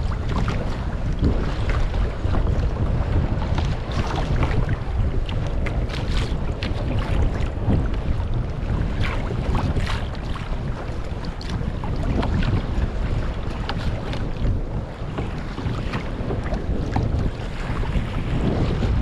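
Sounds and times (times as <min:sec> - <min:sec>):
choppy waves splashing: 0:00.0 - 0:19.0
wind buffeting microphone: 0:00.0 - 0:19.0.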